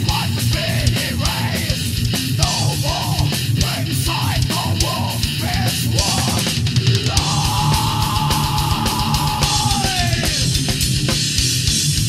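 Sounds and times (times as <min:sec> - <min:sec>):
distorted guitars: 0:00.0 - 0:12.0
fast metal drums: 0:00.0 - 0:12.0.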